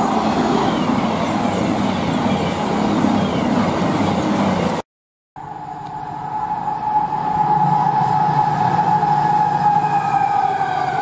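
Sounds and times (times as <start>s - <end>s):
train passing at speed: 0.0s - 4.8s, 5.4s - 11.0s.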